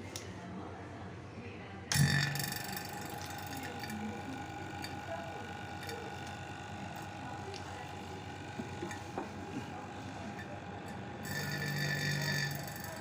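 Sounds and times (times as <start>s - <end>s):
vacuum pump running: 1.9s - 13.0s.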